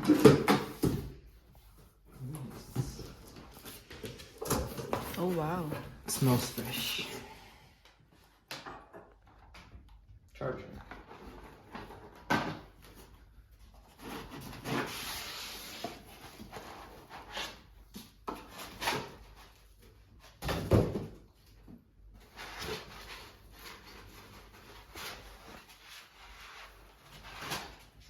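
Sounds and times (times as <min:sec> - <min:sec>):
cardboard and plastic rustling: 0:00.0 - 0:06.8, 0:10.8 - 0:28.0.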